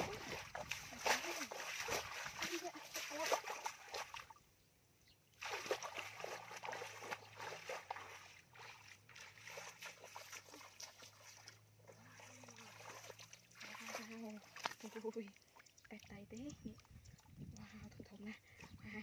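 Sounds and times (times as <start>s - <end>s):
feet splashing in muddy water: 0.0s - 4.5s, 5.3s - 17.8s.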